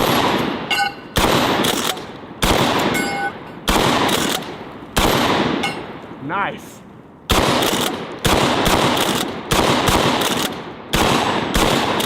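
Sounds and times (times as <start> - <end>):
shotgun shots echoing: 0.0 - 6.0, 7.3 - 12.0.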